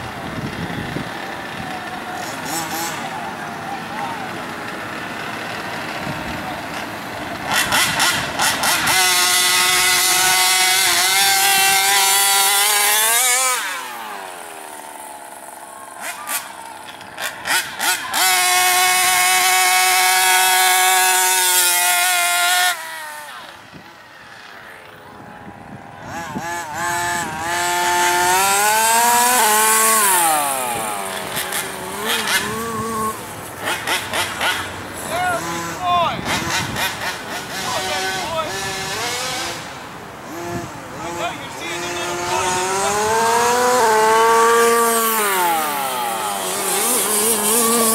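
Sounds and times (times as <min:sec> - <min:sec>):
small two-stroke engine revving: 0:00.0 - 0:25.0, 0:25.6 - 0:47.9.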